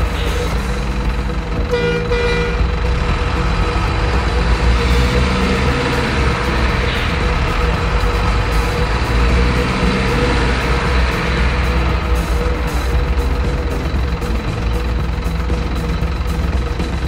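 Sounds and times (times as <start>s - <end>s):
truck horn toots: 0.0s - 13.9s
truck engine running: 0.0s - 17.0s.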